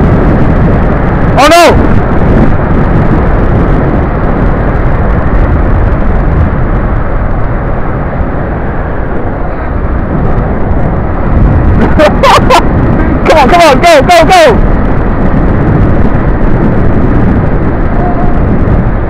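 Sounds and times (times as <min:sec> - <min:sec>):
road rumble: 0:00.0 - 0:19.0
wind rush: 0:00.0 - 0:19.0.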